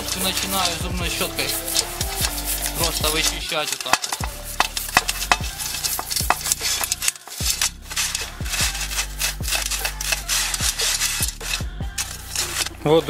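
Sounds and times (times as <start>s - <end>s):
toothbrush scrubbing a chain: 0.0s - 12.9s
background music with thumping beat: 0.0s - 13.0s.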